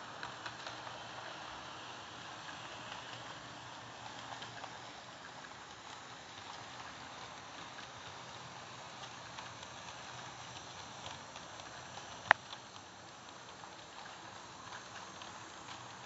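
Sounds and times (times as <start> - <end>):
model train rolling on rails: 0.0 - 16.0.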